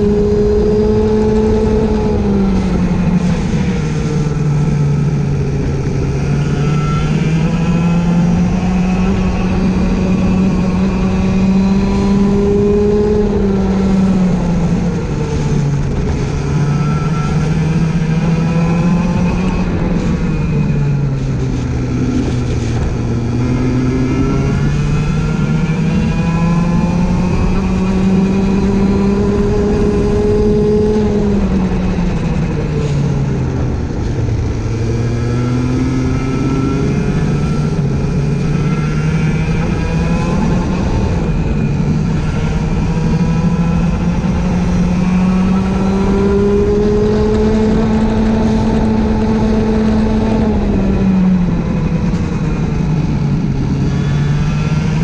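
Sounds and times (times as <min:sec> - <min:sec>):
race engine accelerating: 0:00.0 - 0:55.0.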